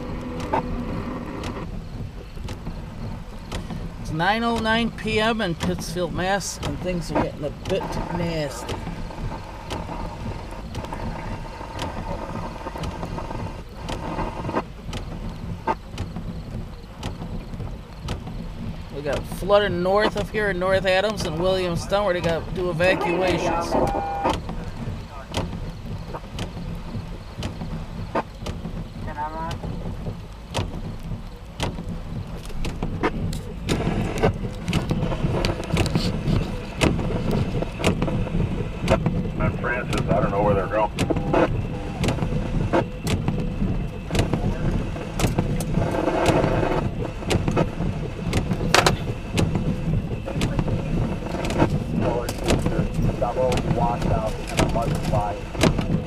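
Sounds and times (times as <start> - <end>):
rain: 0.0 - 56.0
raindrops ticking close by: 0.0 - 56.0
wind rumbling on microphone: 0.0 - 56.0.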